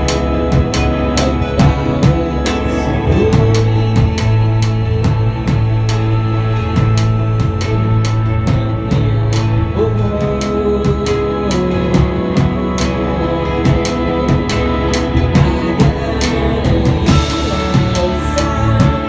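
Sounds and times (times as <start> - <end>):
drum kit steady beat: 0.0 - 19.0
electric guitar: 0.0 - 19.0.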